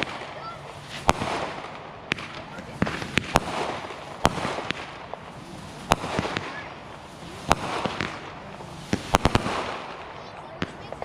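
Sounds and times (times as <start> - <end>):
firework bangs: 0.0 - 11.0
firework pops and crackling: 0.0 - 11.0.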